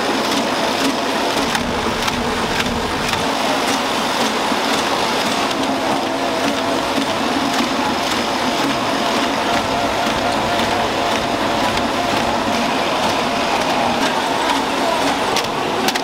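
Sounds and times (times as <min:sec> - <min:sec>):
packaging machinery running: 0:00.0 - 0:16.0.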